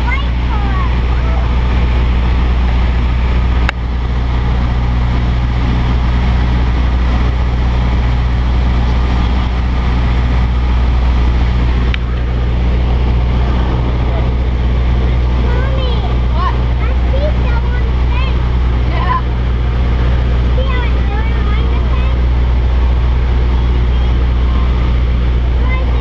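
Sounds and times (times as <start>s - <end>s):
airflow rush: 0.0s - 26.0s
propeller plane engine droning: 0.0s - 26.0s.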